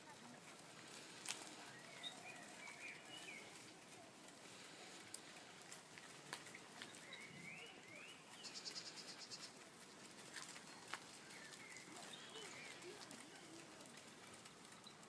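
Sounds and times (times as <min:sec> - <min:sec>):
faint birdsong: 0:00.1 - 0:15.0.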